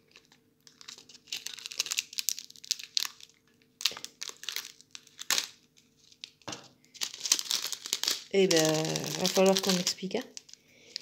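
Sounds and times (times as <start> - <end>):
faint steady hum: 0.0 - 11.0
plastic bag crinkling: 0.0 - 11.0.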